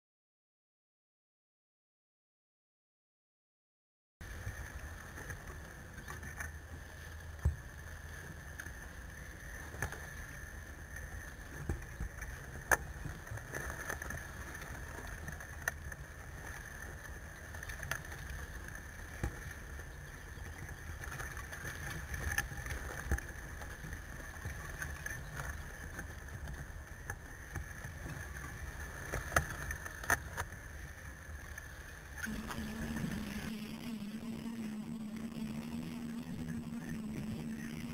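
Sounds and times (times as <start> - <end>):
electric drive whine: 4.2 - 37.9
steady low hum: 4.2 - 37.9.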